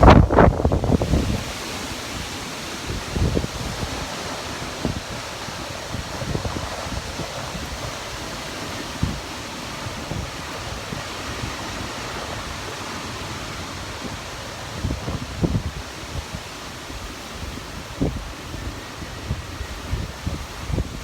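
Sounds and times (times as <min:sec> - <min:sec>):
strong wind rushing: 0:00.0 - 0:21.0
wind buffeting microphone: 0:00.0 - 0:21.0.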